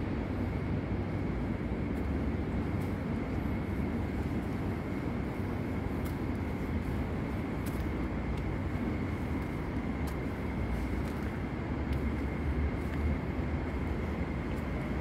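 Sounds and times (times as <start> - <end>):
low ambient rumble: 0.0 - 15.0.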